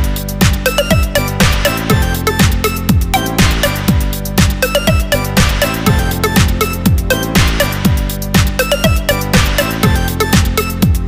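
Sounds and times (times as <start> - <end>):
electronic dance music: 0.0 - 11.0
kick drum beat: 0.0 - 11.0.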